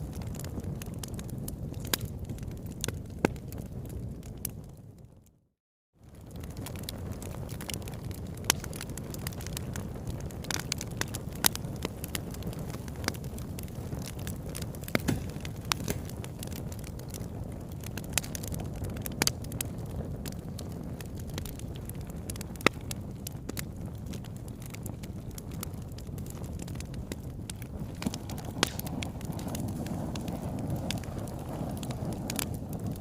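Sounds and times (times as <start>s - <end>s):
campfire flames rushing: 0.0s - 5.1s, 6.0s - 33.0s
burning wood crackling and popping: 0.0s - 5.3s, 6.0s - 33.0s.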